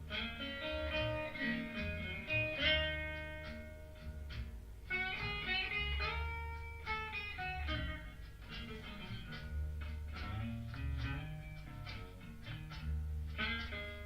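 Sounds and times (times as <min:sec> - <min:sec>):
blues guitar plucked notes: 0:00.0 - 0:14.0
steady bass: 0:00.0 - 0:14.0.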